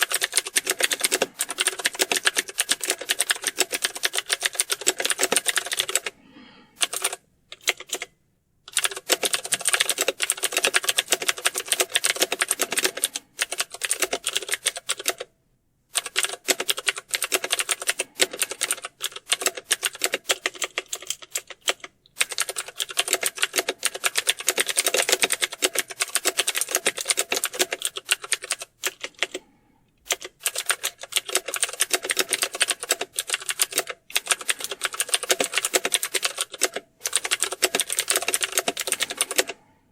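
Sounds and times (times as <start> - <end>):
fast typing on keyboard: 0.0 - 6.2, 6.8 - 8.1, 8.7 - 15.3, 15.9 - 39.6.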